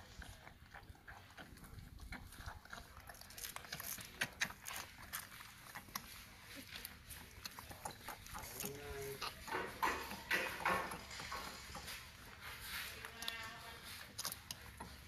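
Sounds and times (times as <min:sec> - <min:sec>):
puppies suckling: 0:00.0 - 0:15.0.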